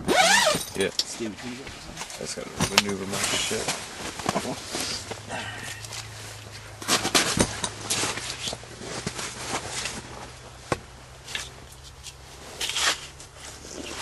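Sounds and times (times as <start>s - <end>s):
rustling and shuffling of gear: 0.0s - 14.0s.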